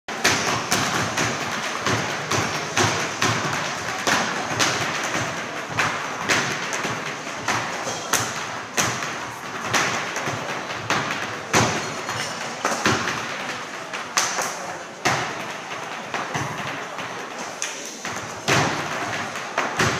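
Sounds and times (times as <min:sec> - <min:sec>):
rapid percussive taps and thumps: 0:00.1 - 0:17.4, 0:18.0 - 0:19.9.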